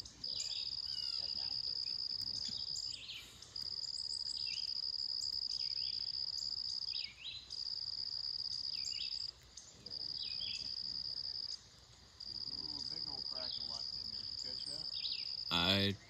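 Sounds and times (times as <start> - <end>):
insect trilling: 0.0 - 16.0.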